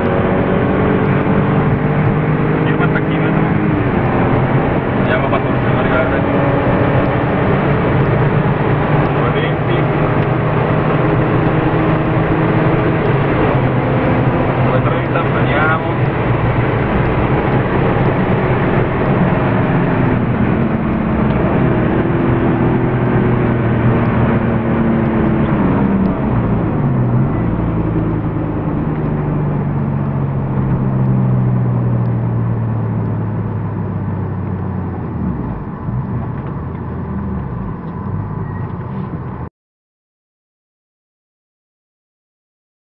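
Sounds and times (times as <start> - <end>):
car engine revving: 0.0 - 39.5.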